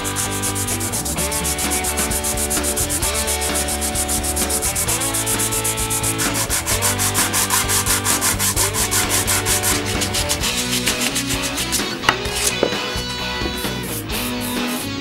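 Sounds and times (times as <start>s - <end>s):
sandpaper rasping on wood: 0.0s - 12.7s
background music: 0.0s - 15.0s.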